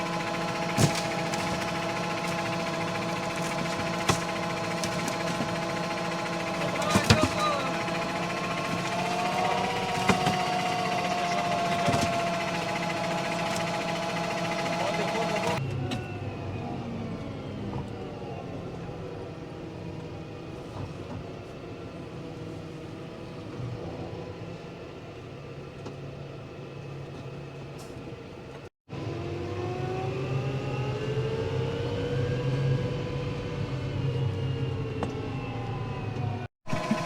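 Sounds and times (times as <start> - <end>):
tractor engine running: 0.0 - 28.7, 33.2 - 37.0.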